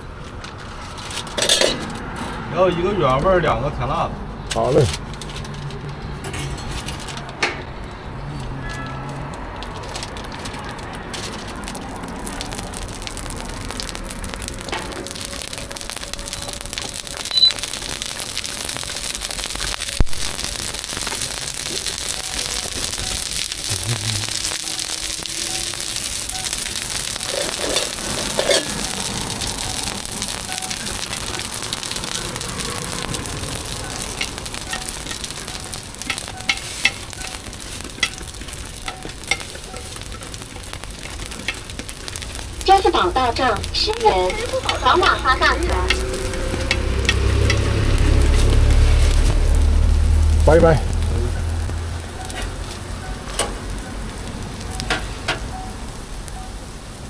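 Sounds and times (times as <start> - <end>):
food sizzling in hot oil: 1.2 - 2.2, 9.6 - 57.0.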